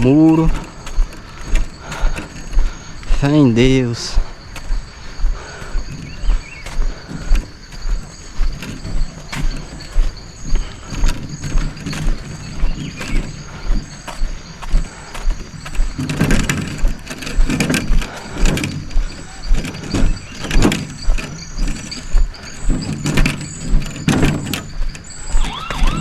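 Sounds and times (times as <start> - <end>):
footsteps walking: 0.0 - 26.0
rustling: 0.0 - 26.0.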